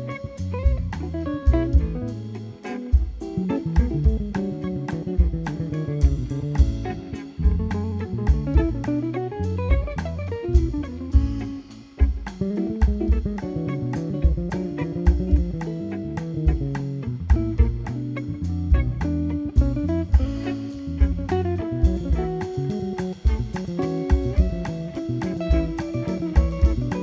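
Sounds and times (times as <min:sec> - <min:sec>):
guitar melodic line: 0:00.0 - 0:27.0
instrumental band music: 0:00.0 - 0:27.0.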